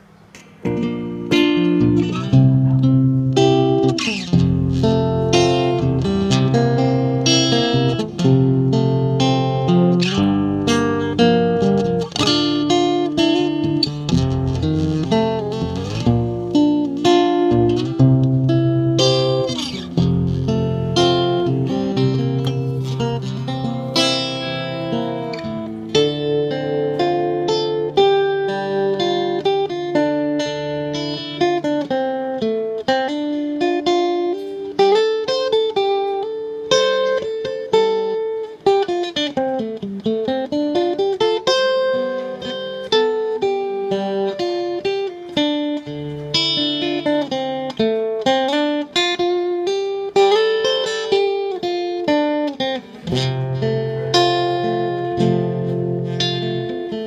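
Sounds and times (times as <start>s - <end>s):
acoustic guitar melody: 0.0s - 57.0s.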